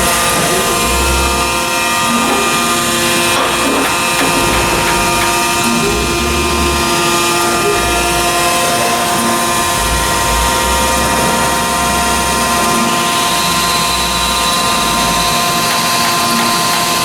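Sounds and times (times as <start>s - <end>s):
grinder motor hum: 0.0s - 17.0s
high whine: 0.0s - 17.0s.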